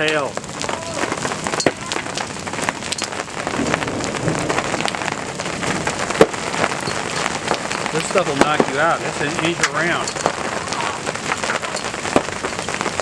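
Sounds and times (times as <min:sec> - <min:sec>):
hailstones pelting down: 0:00.0 - 0:13.0.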